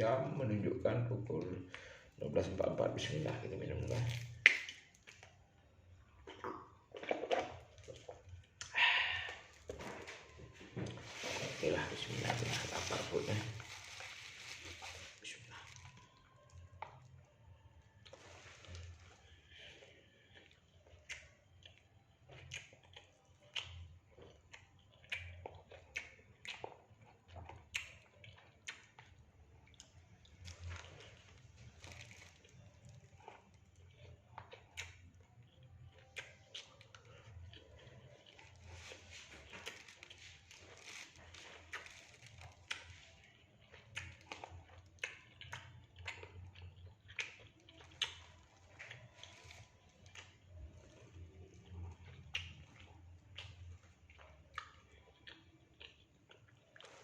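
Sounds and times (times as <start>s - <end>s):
person chewing food: 1.7s - 57.0s.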